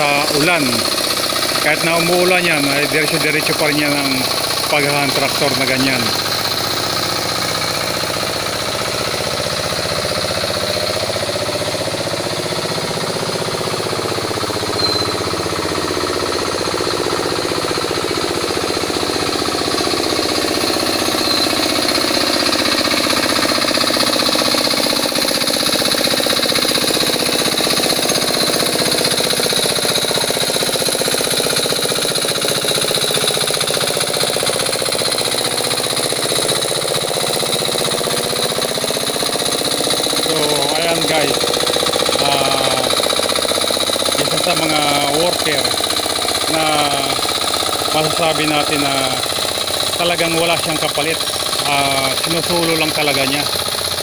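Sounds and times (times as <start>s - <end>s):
hand tractor engine chugging: 0.0s - 54.0s.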